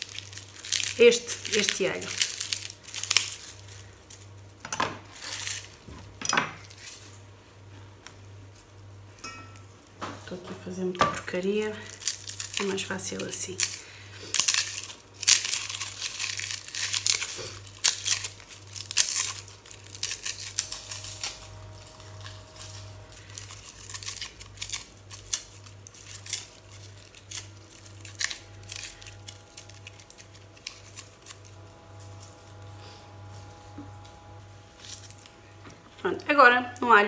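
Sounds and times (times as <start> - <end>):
garlic skins crackling and tearing: 0.0 - 5.9, 6.6 - 7.3, 11.3 - 37.0.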